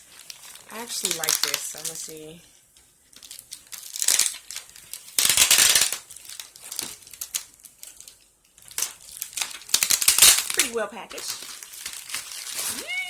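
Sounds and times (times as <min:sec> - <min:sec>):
packaging crackles: 0:00.0 - 0:13.0
packaging crinkling and rustling: 0:00.0 - 0:13.0.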